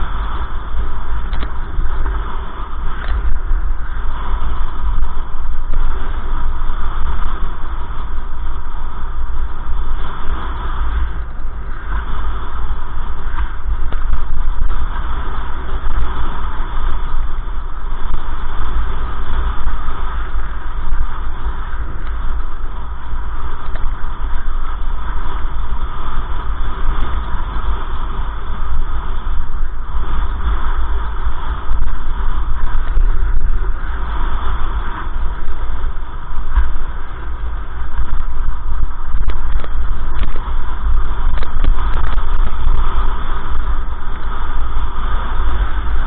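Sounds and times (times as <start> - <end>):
road rumble: 0.0 - 46.0
wind buffeting microphone: 0.0 - 46.0.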